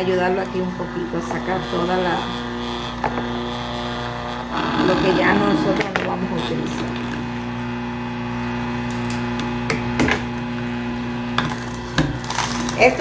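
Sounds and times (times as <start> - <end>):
juicer motor humming: 0.0 - 13.0
vegetables cracking in juicer: 0.1 - 13.0.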